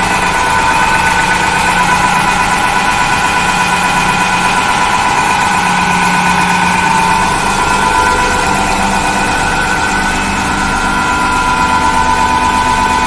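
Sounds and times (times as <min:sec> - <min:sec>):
high-pressure pump whine: 0:00.0 - 0:13.0
low motor hum: 0:00.0 - 0:13.0.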